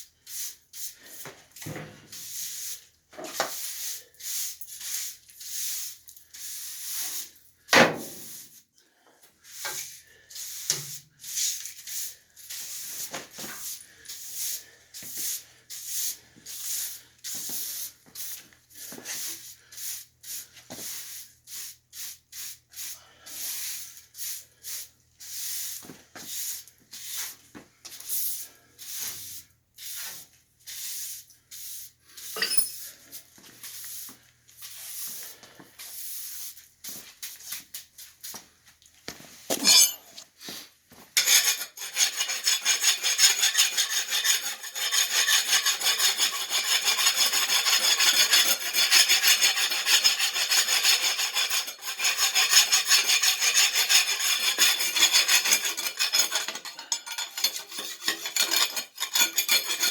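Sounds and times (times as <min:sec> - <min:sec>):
hand tool scraping strokes: 0:00.0 - 0:38.4, 0:39.4 - 0:59.9.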